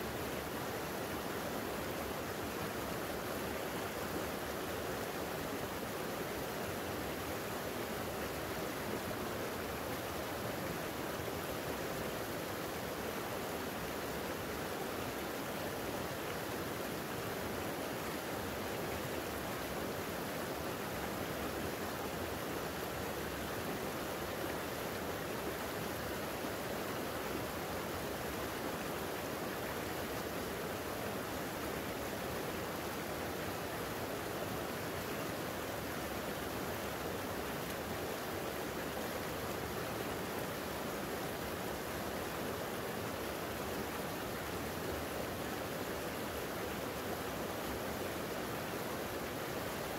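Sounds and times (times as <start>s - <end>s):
creek water flowing: 0.0s - 49.9s.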